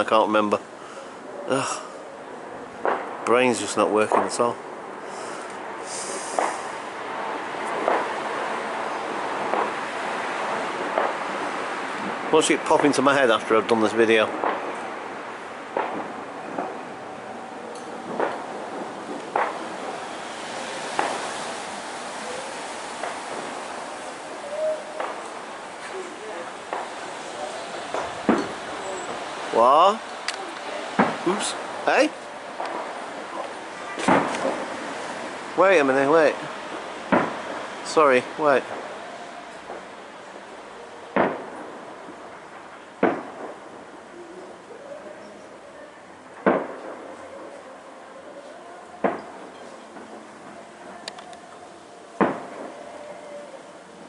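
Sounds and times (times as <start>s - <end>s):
steady background hiss: 0.0s - 54.0s
distant fireworks bangs: 2.4s - 53.6s.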